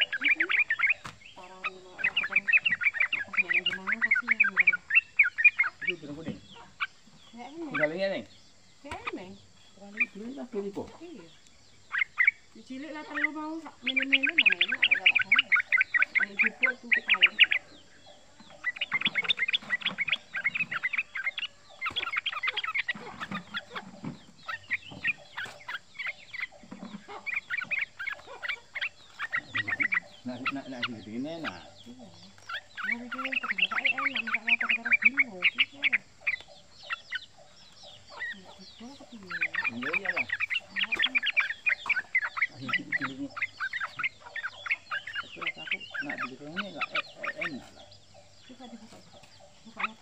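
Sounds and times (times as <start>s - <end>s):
bird chattering call: 0.0s - 50.0s.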